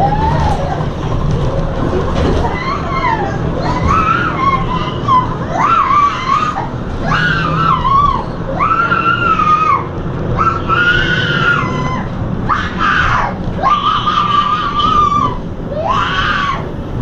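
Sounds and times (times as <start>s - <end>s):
steady low rumble: 0.0s - 17.0s
girl screaming: 2.4s - 16.6s.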